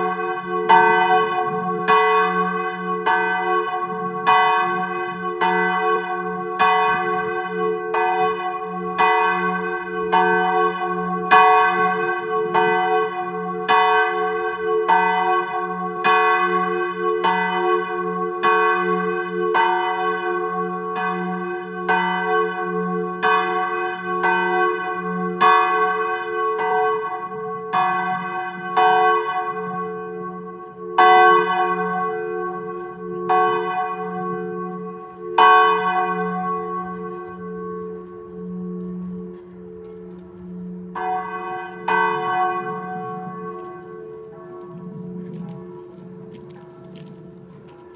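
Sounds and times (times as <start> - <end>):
church bell ringing: 0.0 - 47.9.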